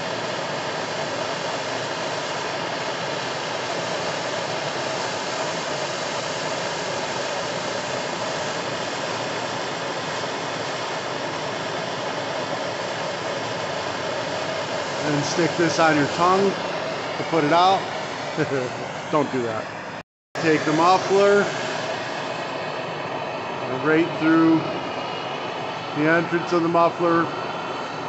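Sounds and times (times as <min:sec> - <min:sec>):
gas torch flame rushing: 0:00.0 - 0:28.0.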